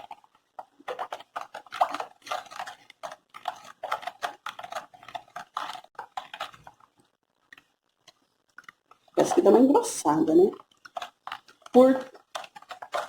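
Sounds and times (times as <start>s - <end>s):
batter stirred in a bowl: 0.0s - 13.0s.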